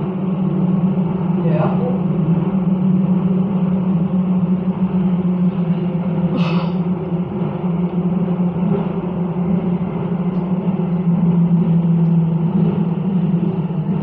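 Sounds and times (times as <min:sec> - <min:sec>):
metro train rumbling in tunnel: 0:00.0 - 0:14.0.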